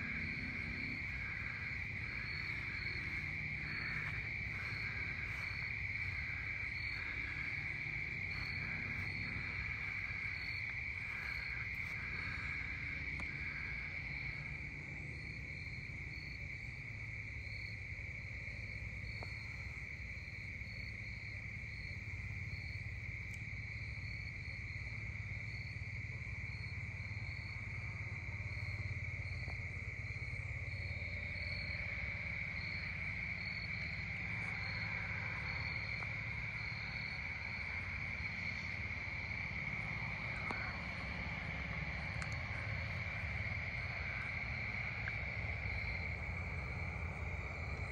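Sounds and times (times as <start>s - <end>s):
crickets trilling: 0.0s - 47.9s
faint low rumble: 0.0s - 47.9s.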